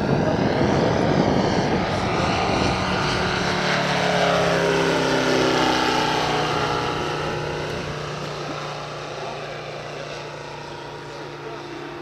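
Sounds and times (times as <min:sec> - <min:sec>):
model plane radial engine in flight: 0:00.0 - 0:12.0.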